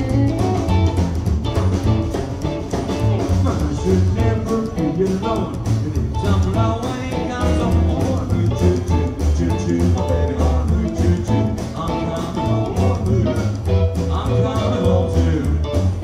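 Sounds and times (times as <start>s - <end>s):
bass line: 0.0s - 16.0s
drums: 0.0s - 16.0s
electric guitar: 0.0s - 16.0s.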